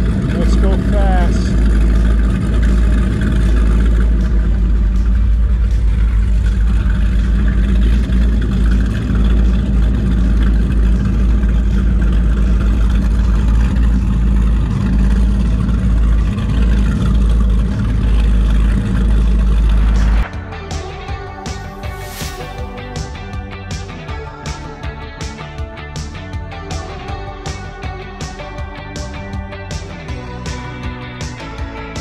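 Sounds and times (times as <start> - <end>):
powerboat engines droning: 0.0 - 32.0.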